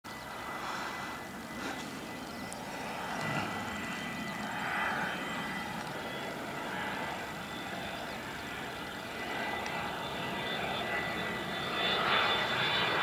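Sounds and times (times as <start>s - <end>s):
distant jet with high whine: 0.1s - 13.0s.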